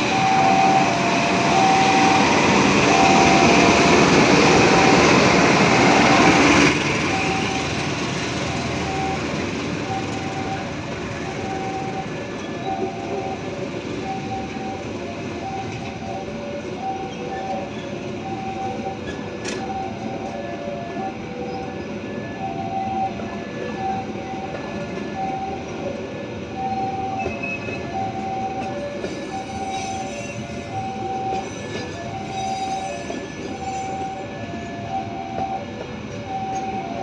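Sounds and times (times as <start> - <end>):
two-tone crossing alarm chime: 0.0 - 25.8, 26.4 - 37.0
train wheels rumbling on rails: 0.0 - 37.0.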